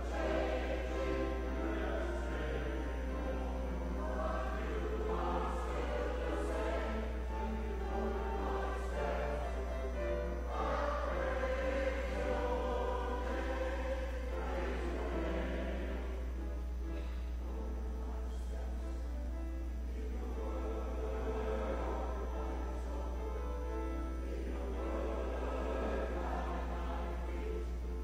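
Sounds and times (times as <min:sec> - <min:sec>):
choir singing: 0:00.0 - 0:16.8, 0:17.5 - 0:28.0
steady low hum: 0:00.0 - 0:28.0.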